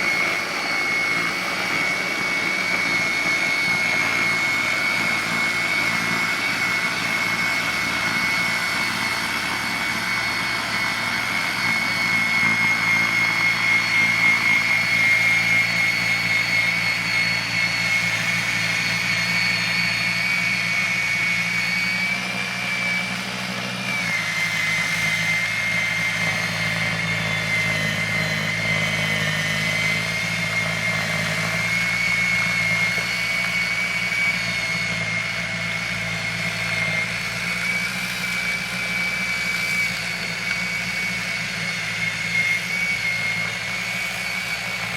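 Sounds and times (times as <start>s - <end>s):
snow blower motor whine: 0.0s - 44.9s.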